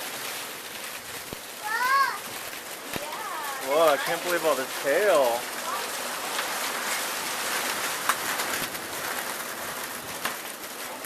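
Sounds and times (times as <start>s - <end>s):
hail hissing on ground: 0.0s - 11.0s.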